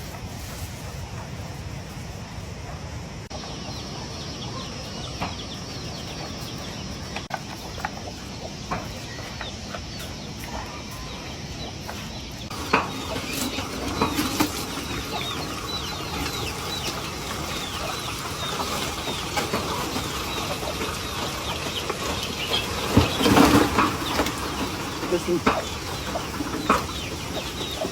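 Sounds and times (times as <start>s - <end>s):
chicks peeping: 2.6s - 27.9s.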